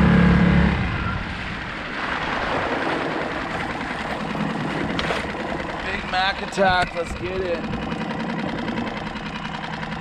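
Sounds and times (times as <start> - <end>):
outboard motor drone: 0.0 - 10.0
water splashing along hull: 0.0 - 10.0.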